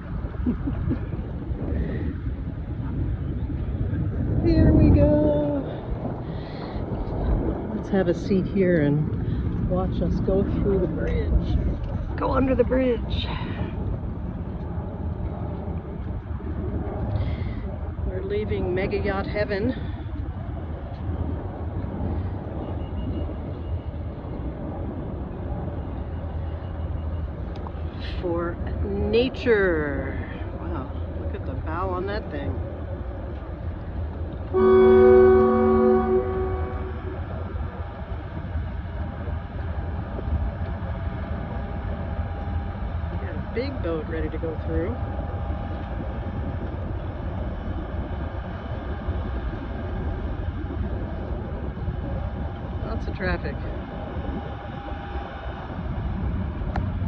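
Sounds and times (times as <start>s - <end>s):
boat engine drone: 0.0s - 57.0s
wind and water rushing: 0.0s - 57.0s.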